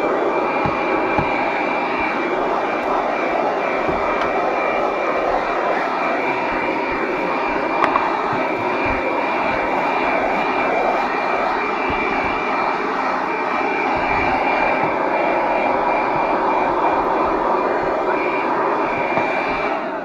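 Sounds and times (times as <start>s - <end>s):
handheld vacuum cleaner whine: 0.0s - 20.0s.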